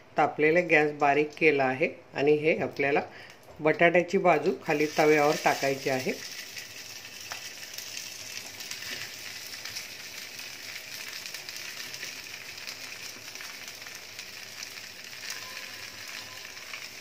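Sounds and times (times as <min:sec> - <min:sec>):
bread frying with gentle sizzle: 0:00.4 - 0:17.0.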